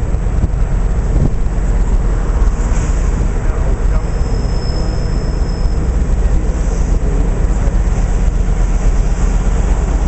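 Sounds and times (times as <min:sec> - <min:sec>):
train locomotive rumbling: 0:00.0 - 0:10.0.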